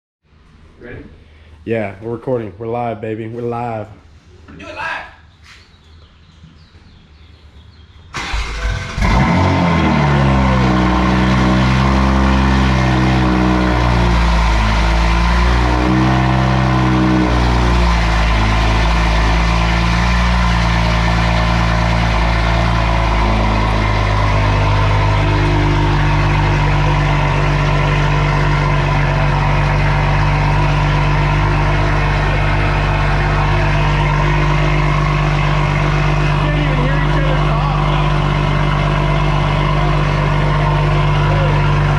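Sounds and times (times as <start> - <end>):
car engine idling loudly: 8.2 - 41.9.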